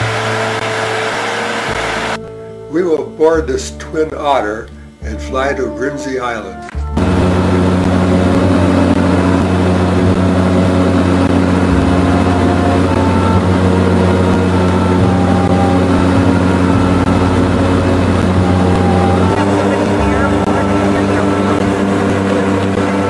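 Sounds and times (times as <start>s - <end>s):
turboprop engines droning: 0.0s - 2.8s, 4.6s - 23.0s.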